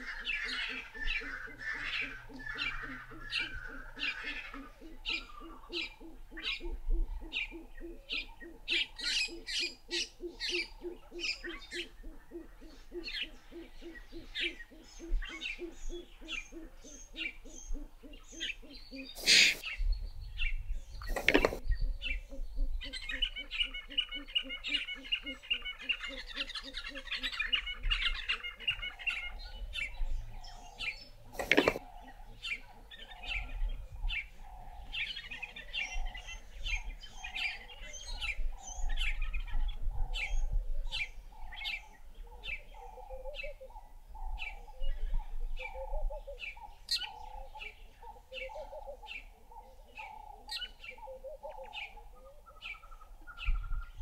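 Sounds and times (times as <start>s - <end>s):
birds chirping: 0.0s - 54.0s
low pulsing bird call: 0.0s - 54.0s.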